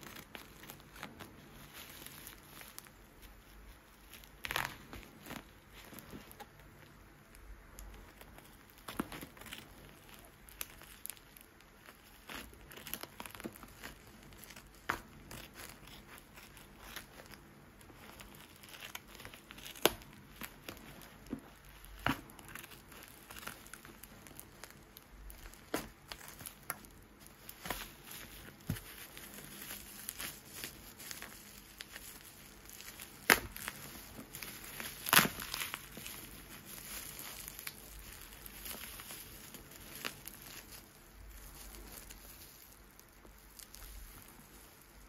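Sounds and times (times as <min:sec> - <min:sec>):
bubble wrap snaps: 0:00.0 - 0:45.0
plastic wrapping crinkling: 0:00.0 - 0:45.0.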